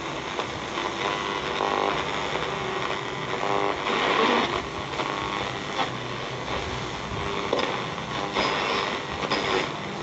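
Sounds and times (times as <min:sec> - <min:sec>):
shortwave radio static hissing: 0:00.0 - 0:10.0.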